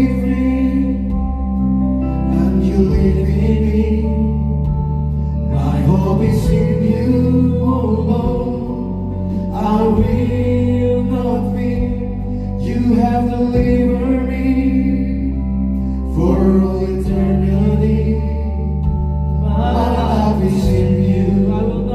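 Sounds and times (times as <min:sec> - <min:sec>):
worship music with singing: 0:00.0 - 0:21.9.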